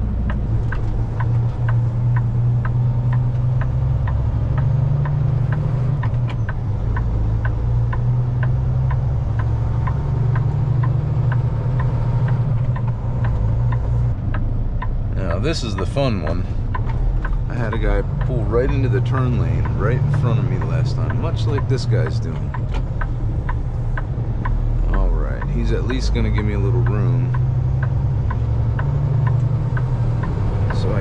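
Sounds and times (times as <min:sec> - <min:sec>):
diesel truck engine idling: 0:00.0 - 0:31.0
turn signal clicking: 0:00.0 - 0:31.0.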